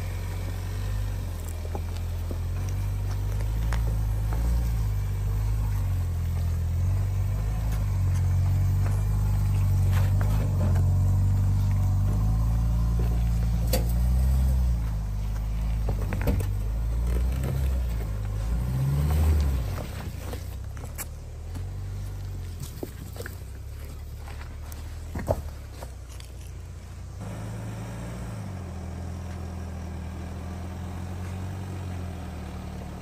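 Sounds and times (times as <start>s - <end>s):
car engine at low revs: 0.0s - 33.0s
stones clicking under tyres: 0.1s - 27.4s.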